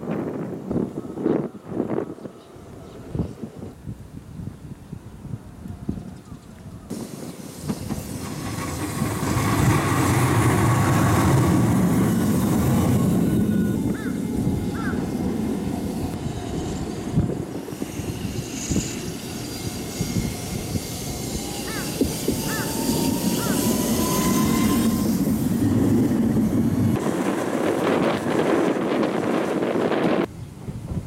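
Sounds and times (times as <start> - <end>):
streetcar rumbling on rails: 0.0 - 3.9, 5.4 - 30.3.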